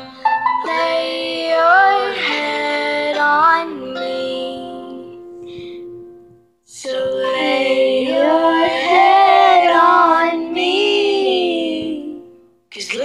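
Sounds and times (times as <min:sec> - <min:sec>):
girl singing unaccompanied: 0:00.6 - 0:05.3, 0:06.7 - 0:13.0.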